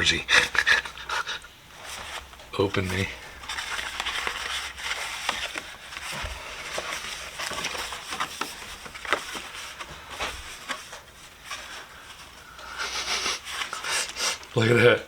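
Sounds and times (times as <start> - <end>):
paper crinkling and tearing: 1.8 - 14.9.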